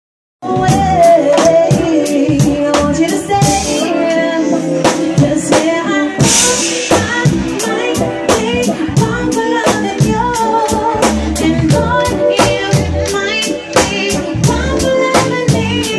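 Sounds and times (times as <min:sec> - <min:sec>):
live soul band playing: 0:00.4 - 0:15.9.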